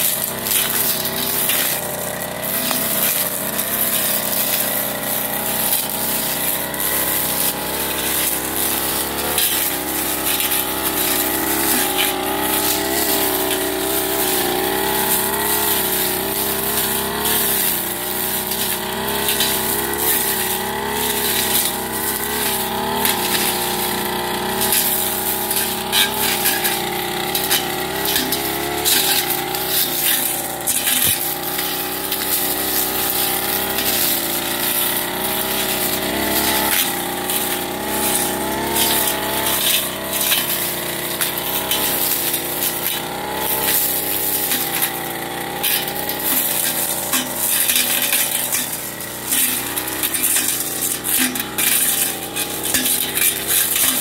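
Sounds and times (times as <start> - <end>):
blade snapping through stems: 0.0 - 54.0
brush cutter engine running: 0.0 - 54.0.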